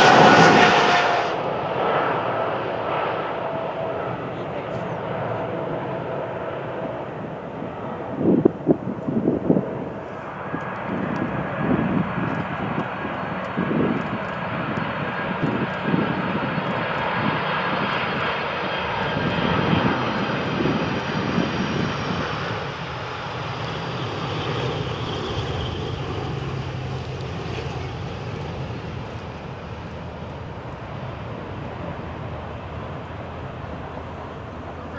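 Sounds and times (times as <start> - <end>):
jet airliner engines roaring: 0.0 - 34.9.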